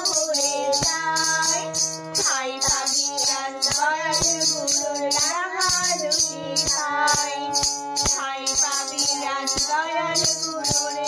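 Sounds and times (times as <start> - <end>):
harmonium sustained notes: 0.0 - 11.0
percussion beat: 0.0 - 11.0
woman singing: 0.0 - 11.0.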